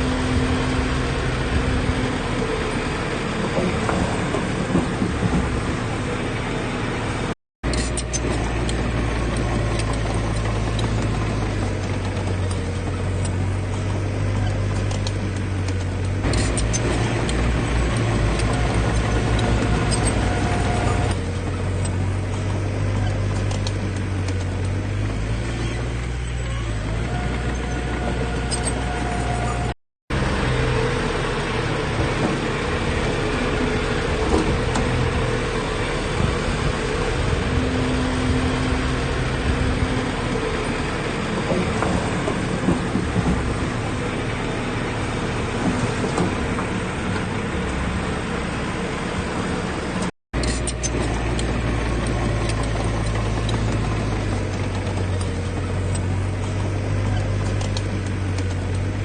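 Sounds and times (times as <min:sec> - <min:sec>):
diesel machinery engine drone: 0:00.0 - 0:59.0
machinery rattle: 0:00.0 - 0:59.0.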